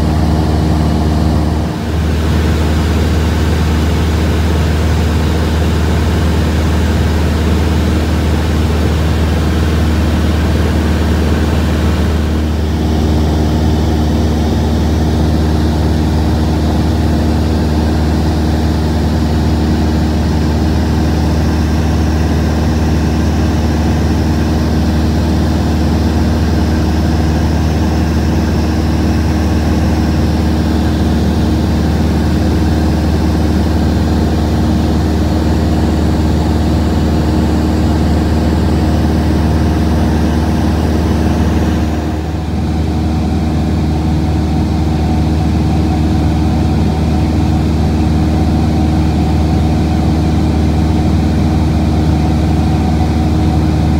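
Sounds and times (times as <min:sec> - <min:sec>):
propeller plane engine droning: 0:00.0 - 0:53.9.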